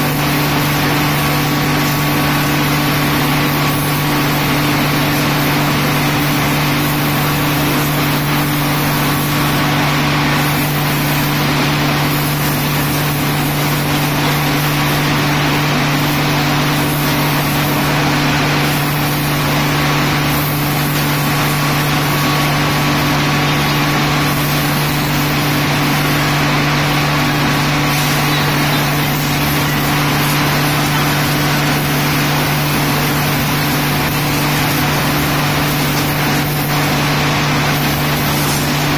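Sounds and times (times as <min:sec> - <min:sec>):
high-pressure water jet hissing: 0:00.0 - 0:38.9
low machine hum: 0:00.0 - 0:38.9.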